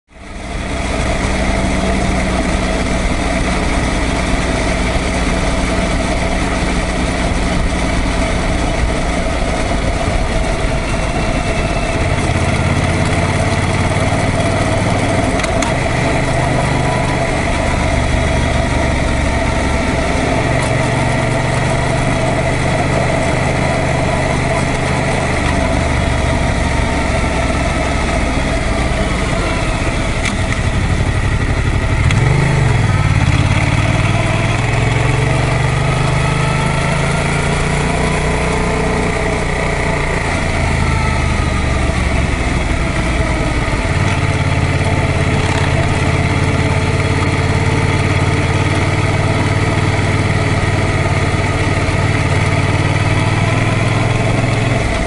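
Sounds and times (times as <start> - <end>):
motorcycle engine running: 0.1 - 55.0
wind and road noise: 0.1 - 55.0.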